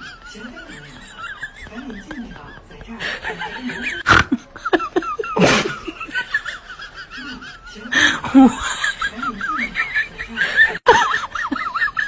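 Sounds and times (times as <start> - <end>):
person laughing: 0.0 - 12.0.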